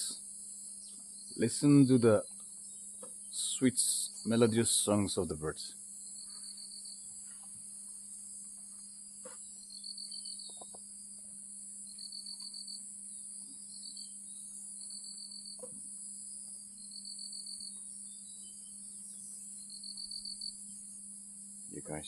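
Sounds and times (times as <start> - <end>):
crickets chirping in trills: 0.0 - 22.0
high insect drone: 0.0 - 22.0.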